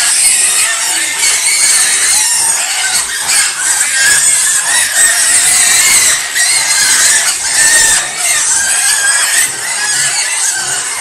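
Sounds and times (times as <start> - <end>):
piglets squealing: 0.0 - 11.0.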